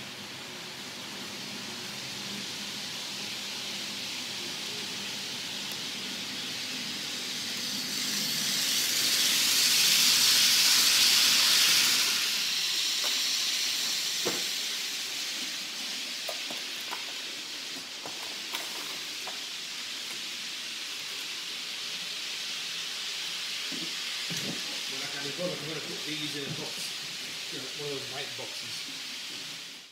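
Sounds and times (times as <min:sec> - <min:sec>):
model train running on track: 0:00.0 - 0:29.9.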